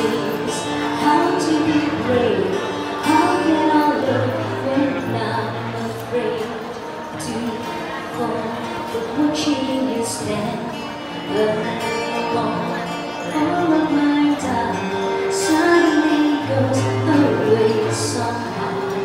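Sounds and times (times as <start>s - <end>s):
acoustic guitar: 0.0s - 19.0s
woman singing into a microphone: 0.0s - 19.0s.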